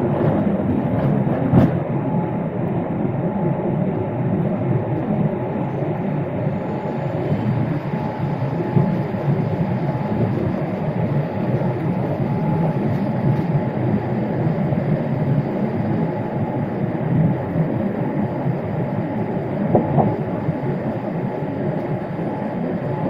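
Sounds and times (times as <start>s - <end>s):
faint engine whine: 0.0s - 23.0s
jet engines low rumble: 0.0s - 23.0s.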